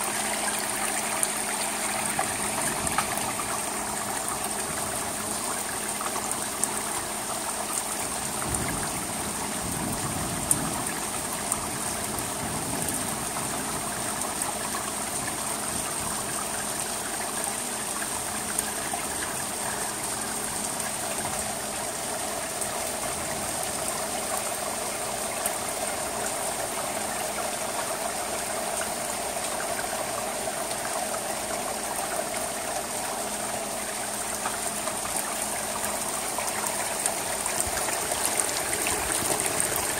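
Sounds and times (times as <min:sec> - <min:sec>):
rain on a roof: 0:00.0 - 0:39.9
water trickling into gutter: 0:00.0 - 0:39.9.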